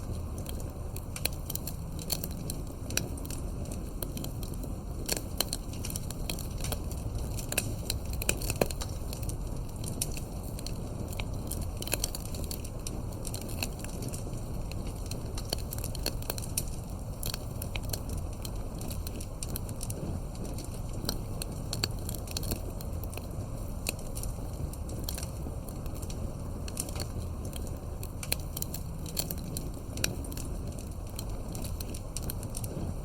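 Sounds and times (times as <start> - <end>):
low steady rumble: 0.0 - 33.0
wood fire crackling and popping: 0.0 - 33.0.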